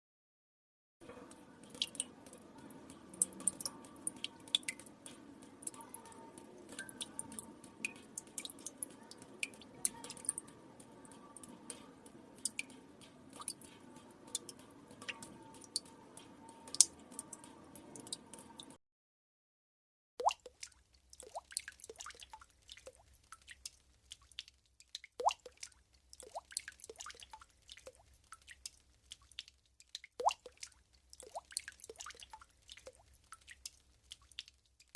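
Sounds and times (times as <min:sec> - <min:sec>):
water drops plinking into water: 0:01.1 - 0:18.8, 0:20.2 - 0:23.7, 0:24.4 - 0:28.7, 0:29.4 - 0:33.7.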